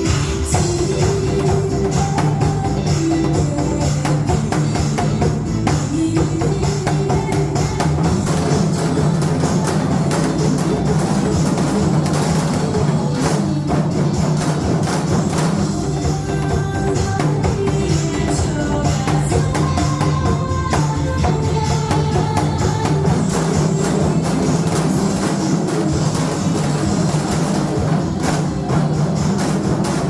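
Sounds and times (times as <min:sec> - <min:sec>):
upbeat recorded song: 0:00.0 - 0:30.0.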